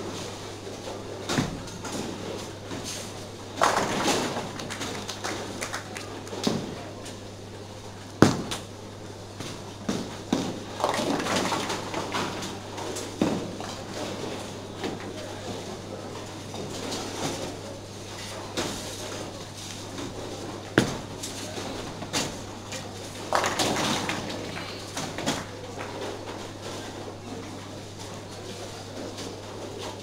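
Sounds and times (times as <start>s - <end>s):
steady electrical hum: 0.0s - 30.0s
clatter of bowling pins: 0.2s - 7.2s, 9.3s - 30.0s.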